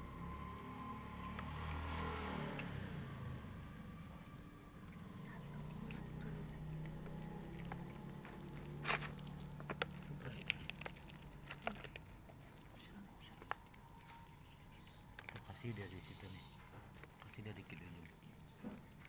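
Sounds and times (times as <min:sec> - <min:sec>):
faint low hum: 0:00.0 - 0:19.0
cats crunching dry kibble: 0:01.2 - 0:19.0.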